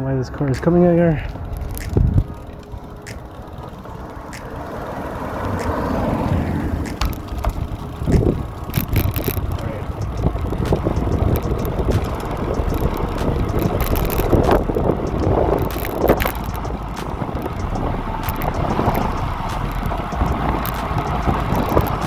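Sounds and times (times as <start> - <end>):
wind rushing over microphone: 0.0 - 22.0
bike clicks and knocks: 0.4 - 22.0
tyre rumble on road: 0.6 - 22.0.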